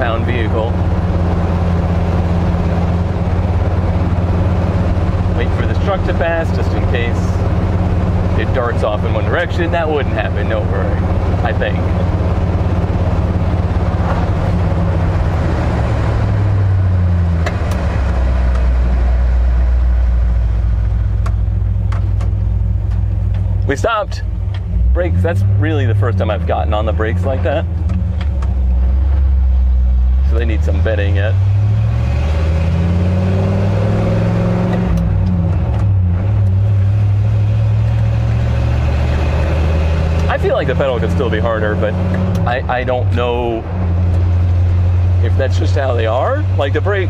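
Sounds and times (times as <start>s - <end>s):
pickup truck engine: 0.0s - 47.0s
road noise inside cab: 0.0s - 47.0s.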